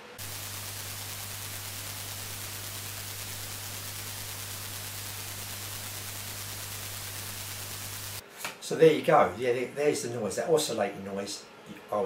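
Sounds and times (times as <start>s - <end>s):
speaker hiss and hum: 0.0s - 12.0s.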